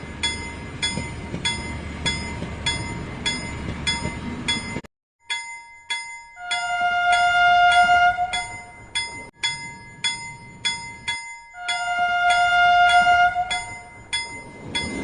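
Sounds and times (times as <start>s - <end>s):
bell chimes playing a tune: 0.0s - 15.0s.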